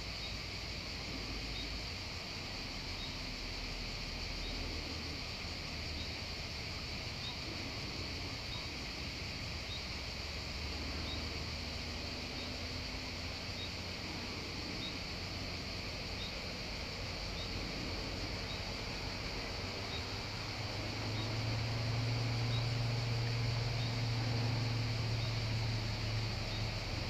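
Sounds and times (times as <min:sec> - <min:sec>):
insects buzzing: 0:00.0 - 0:27.0
low motor hum: 0:00.0 - 0:27.0.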